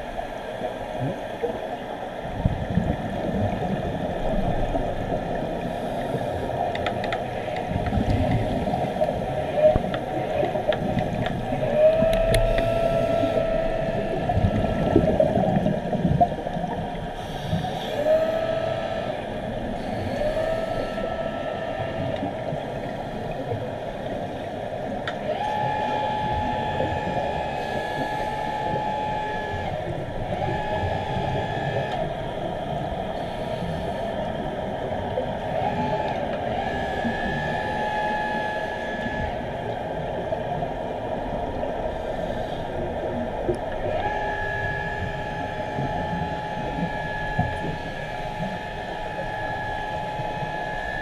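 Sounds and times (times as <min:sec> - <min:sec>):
rushing water underwater: 0:00.0 - 0:51.0.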